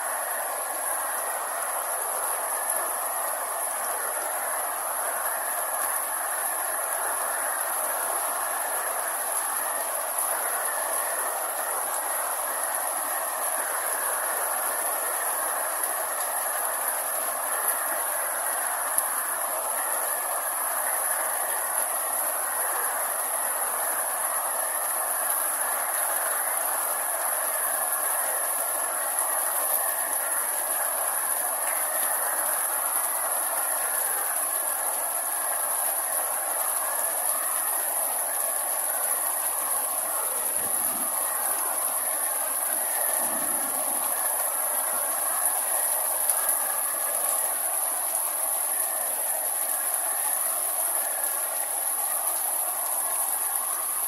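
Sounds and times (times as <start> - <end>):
high-pitched whine: 0.0 - 54.0
steady rainfall: 0.0 - 54.0.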